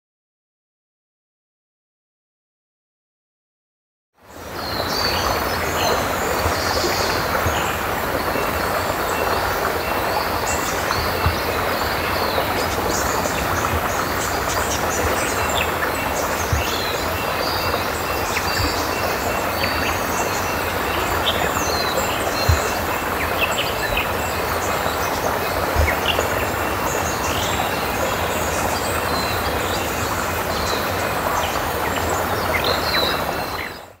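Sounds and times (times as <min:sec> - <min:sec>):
small birds chirping: 0:04.7 - 0:34.0.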